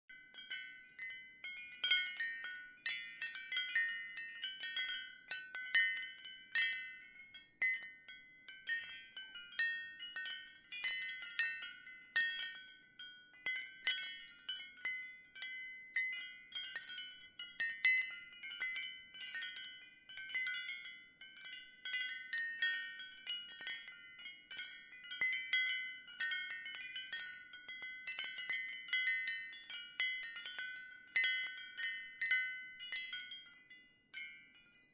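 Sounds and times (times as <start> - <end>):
wind chimes ringing: 0.1 - 34.9.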